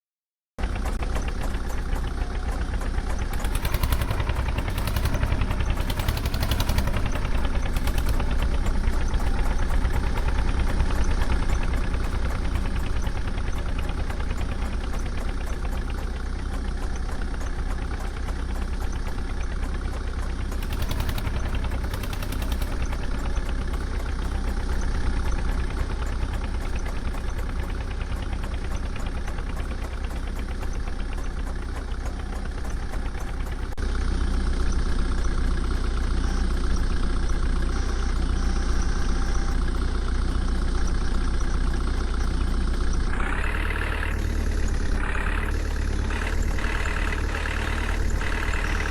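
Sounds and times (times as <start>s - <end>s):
diesel engine running: 0.6s - 48.9s.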